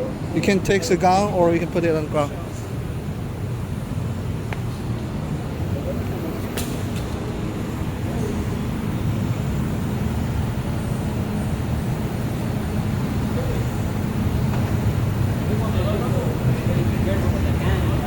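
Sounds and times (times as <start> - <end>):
low machine rumble: 0.0 - 18.0.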